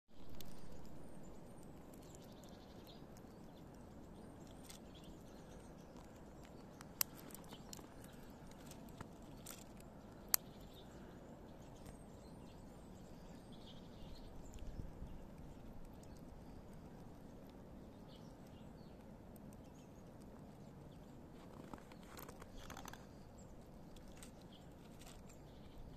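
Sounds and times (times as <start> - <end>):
squirrel gnawing and cracking nuts: 0.1 - 25.9.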